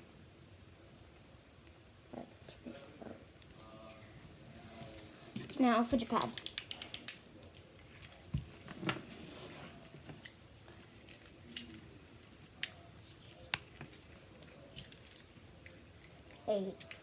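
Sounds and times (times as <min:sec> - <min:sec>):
faint handling noise: 0:02.7 - 0:17.0.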